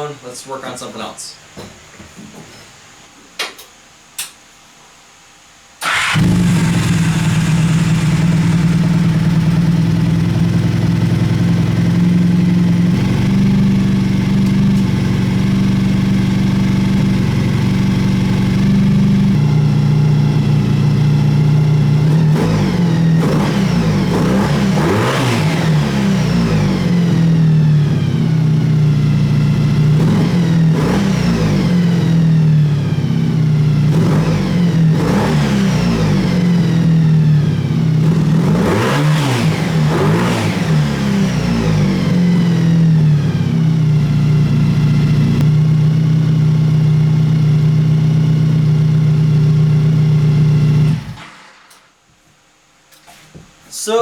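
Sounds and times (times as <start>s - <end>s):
motorcycle engine idling and revving: 5.8s - 51.3s.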